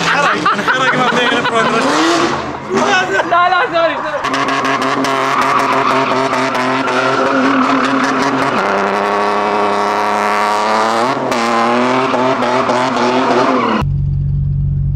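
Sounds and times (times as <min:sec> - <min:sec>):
tyres squealing and skidding: 0:00.0 - 0:10.3, 0:11.2 - 0:13.8
car engine running hard: 0:00.0 - 0:14.9.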